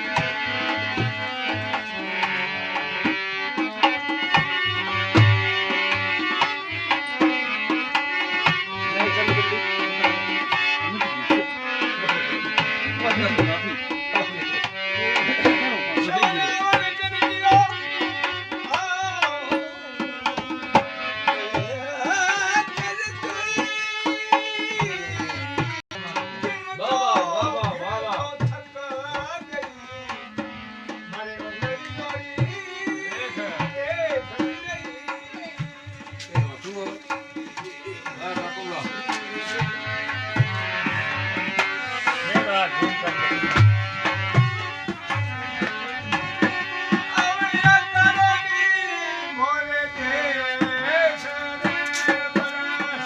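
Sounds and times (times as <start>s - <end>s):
hand drum rhythm: 0.0s - 48.4s, 50.5s - 53.0s
folk melody: 0.0s - 53.0s.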